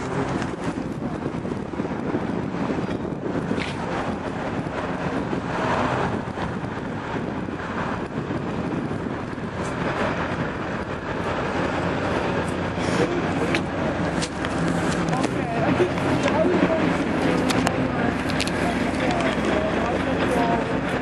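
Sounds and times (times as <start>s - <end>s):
passing traffic: 0.0s - 21.0s
wind rumbling on microphone: 0.0s - 21.0s.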